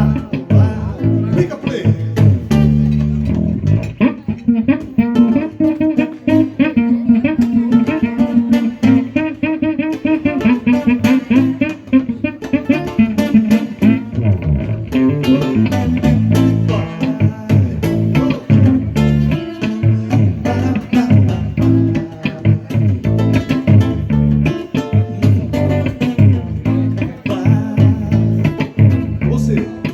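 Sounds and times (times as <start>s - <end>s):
bass guitar line: 0.0s - 29.9s
plucked guitar: 0.0s - 29.9s.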